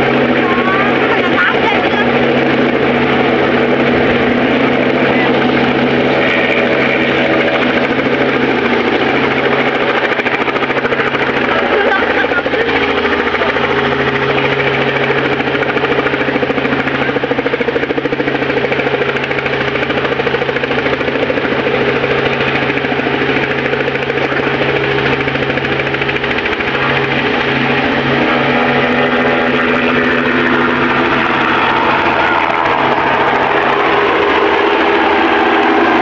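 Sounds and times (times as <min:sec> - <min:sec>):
helicopter engine and rotor throbbing: 0:00.0 - 0:36.0.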